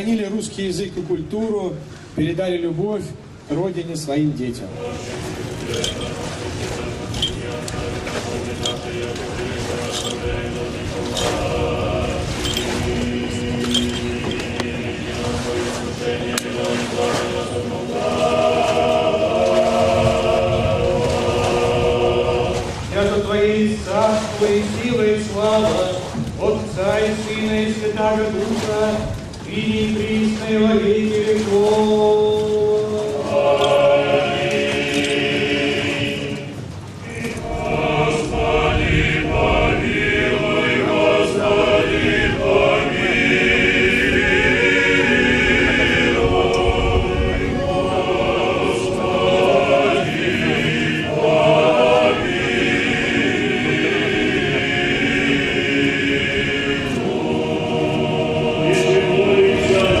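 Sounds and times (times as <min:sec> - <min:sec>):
choir singing slowly: 0:04.5 - 1:00.0.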